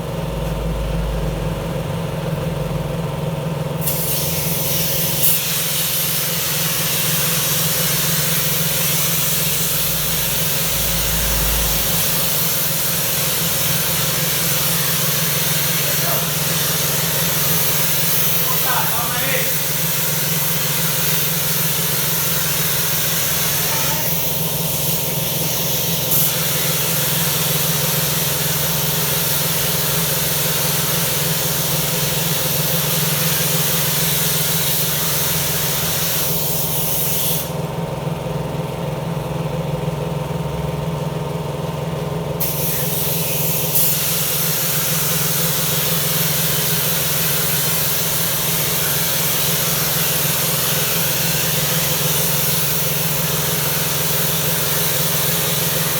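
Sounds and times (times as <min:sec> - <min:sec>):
pressure washer motor humming: 0:00.0 - 0:38.6, 0:42.4 - 0:55.9
pressure washer water spray: 0:03.8 - 0:37.6, 0:42.4 - 0:55.9.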